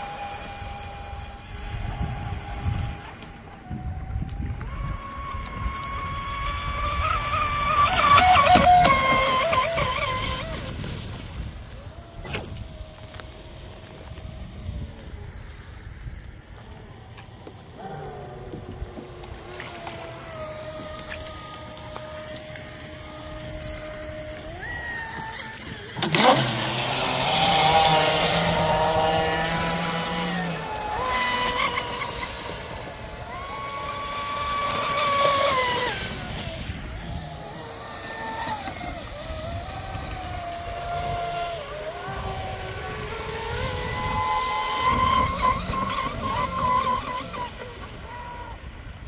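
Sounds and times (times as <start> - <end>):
rc boat electric motor whining: 0.0 - 49.0.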